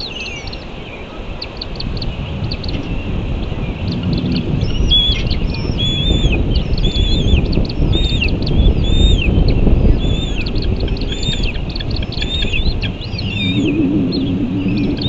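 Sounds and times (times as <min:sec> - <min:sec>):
steady low rumble: 0:00.0 - 0:15.0
hawk nestlings chirping: 0:01.4 - 0:15.0.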